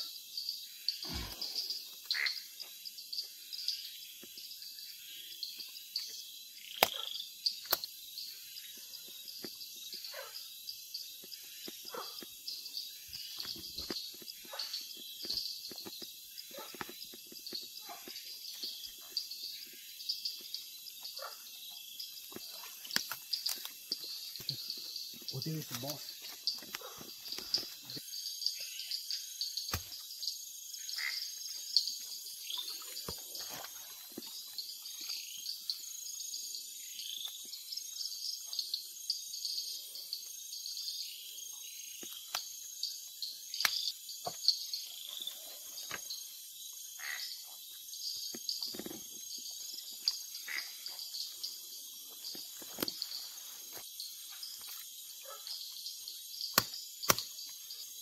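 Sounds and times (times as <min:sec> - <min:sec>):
crickets and insects trilling: 0:00.0 - 0:58.0.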